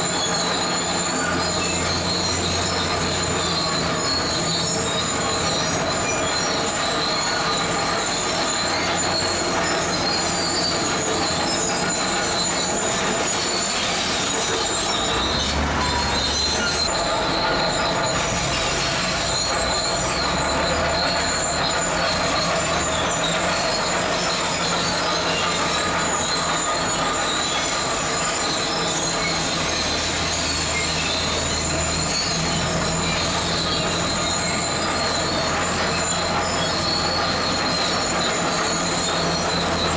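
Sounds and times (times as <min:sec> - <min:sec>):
bulldozer engine rumble: 0:00.0 - 0:39.9
steel tracks squealing and clanking: 0:00.0 - 0:39.9.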